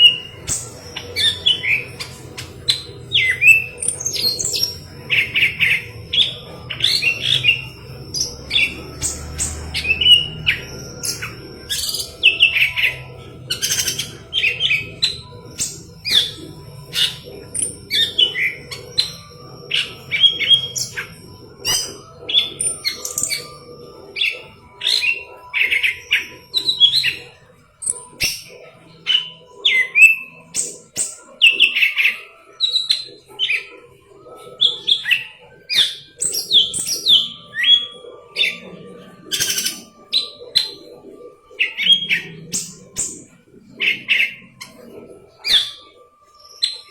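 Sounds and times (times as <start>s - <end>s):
bird singing chirps and warbles: 0.0s - 46.9s.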